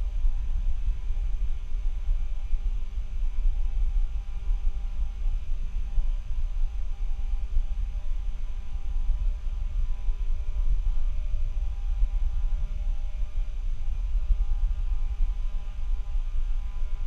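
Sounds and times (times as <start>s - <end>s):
electrical hum: 0.0s - 17.0s
faint high whining tones: 0.0s - 17.0s
low microphone rumble: 0.0s - 17.0s.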